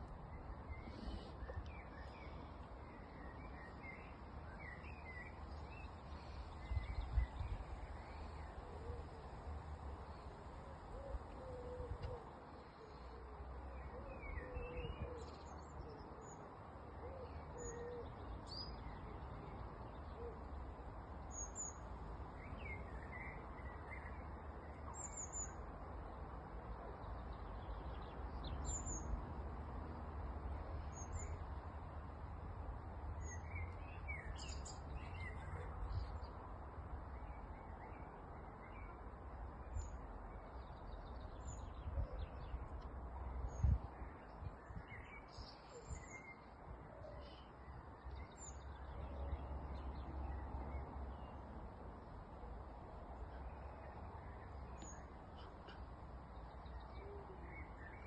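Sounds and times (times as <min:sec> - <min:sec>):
low traffic rumble: 0:00.0 - 0:58.0.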